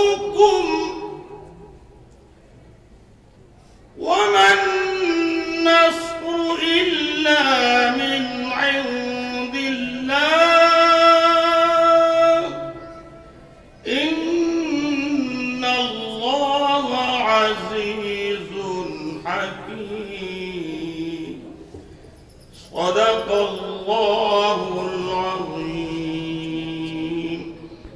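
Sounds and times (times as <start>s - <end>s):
man reciting melodically: 0.0s - 2.0s, 3.9s - 21.8s, 22.6s - 27.9s.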